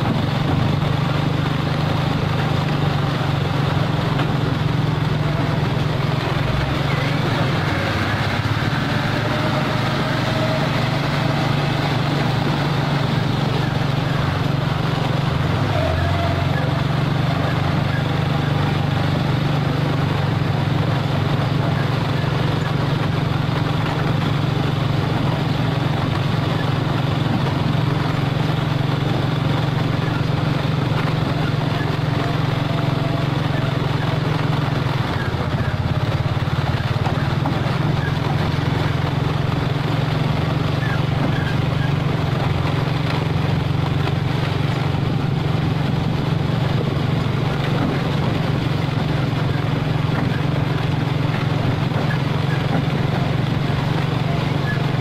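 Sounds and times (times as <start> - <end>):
road noise on gravel: 0.0 - 55.0
vehicle engines droning: 0.0 - 55.0.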